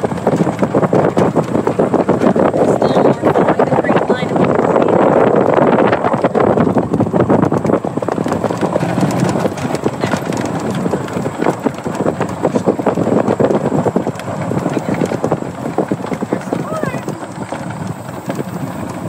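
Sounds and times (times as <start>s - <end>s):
golf cart rattling over gravel: 0.0s - 19.0s.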